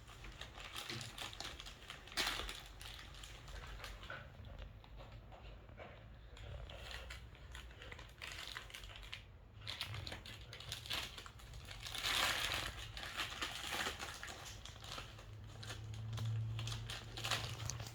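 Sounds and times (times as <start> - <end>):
plastic bag crinkling: 0.0 - 4.6, 6.4 - 17.9.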